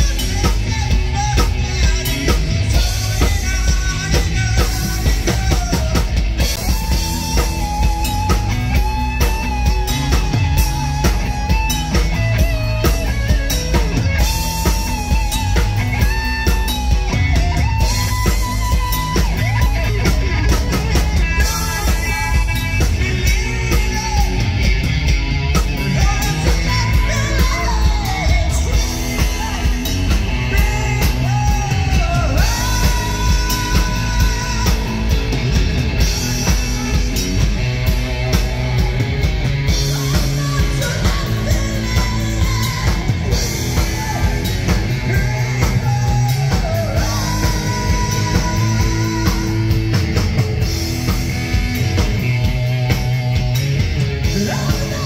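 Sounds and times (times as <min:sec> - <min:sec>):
person singing: 0:00.0 - 0:51.2, 0:54.2 - 0:55.0
drum beat: 0:00.0 - 0:55.0
guitar: 0:00.0 - 0:55.0
rock music: 0:00.0 - 0:55.0.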